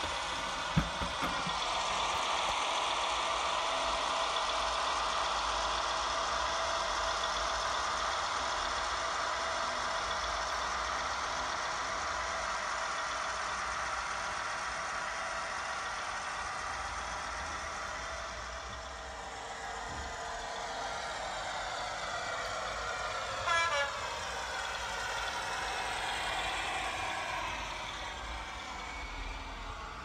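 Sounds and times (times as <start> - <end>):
diesel locomotive engine sound from speaker: 0.0 - 30.0
model train running on track: 0.0 - 30.0.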